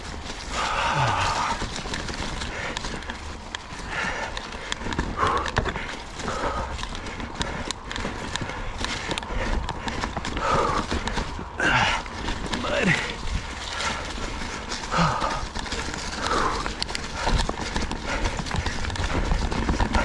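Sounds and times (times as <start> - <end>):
bike rattling over rocks: 0.0 - 20.0.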